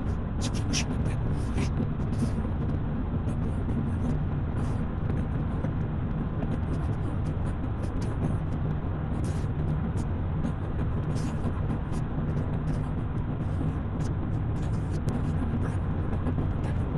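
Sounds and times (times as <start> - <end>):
car engine hum: 0.0 - 16.9
tyre and road noise: 0.0 - 16.9.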